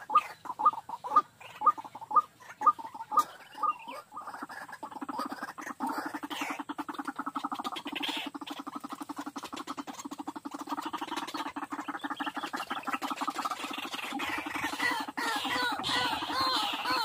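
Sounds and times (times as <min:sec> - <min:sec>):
bird low croaking pulses: 0:00.0 - 0:17.0.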